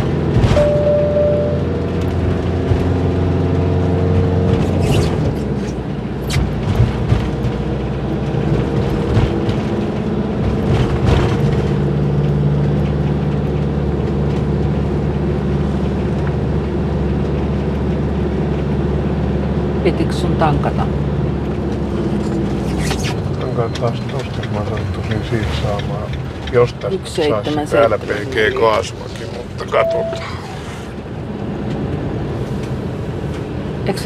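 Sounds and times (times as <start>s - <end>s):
engine and road drone: 0.0s - 34.0s.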